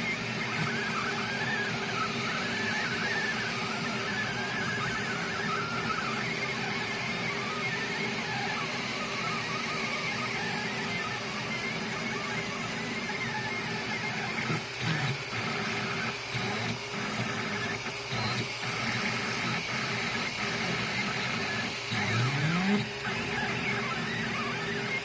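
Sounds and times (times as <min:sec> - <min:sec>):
stepper motors humming and buzzing: 0:00.0 - 0:25.0.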